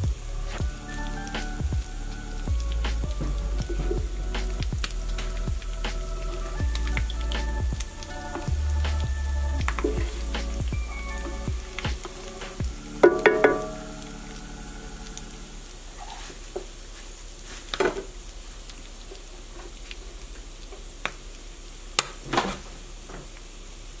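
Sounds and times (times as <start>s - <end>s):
oil sizzling in a skillet: 0.0s - 21.8s.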